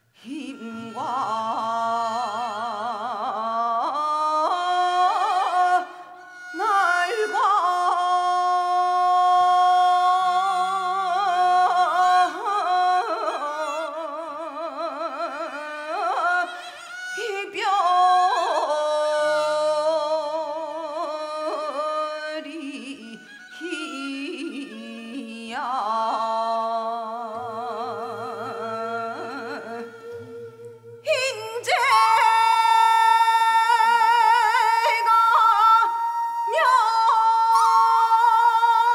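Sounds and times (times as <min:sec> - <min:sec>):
woman singing with wide vibrato: 0:00.0 - 0:38.9.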